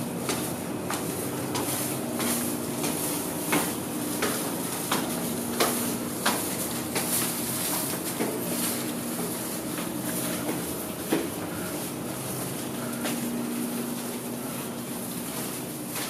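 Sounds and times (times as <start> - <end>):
footsteps climbing stairs: 0.0 - 16.0
steady low hum: 0.0 - 16.0.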